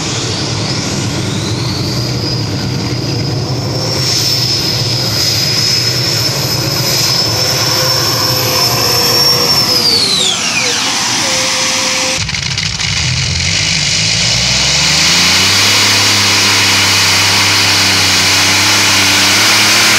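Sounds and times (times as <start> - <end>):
high engine whine: 0.0 - 19.9
tractor engine running at full power: 0.0 - 19.9.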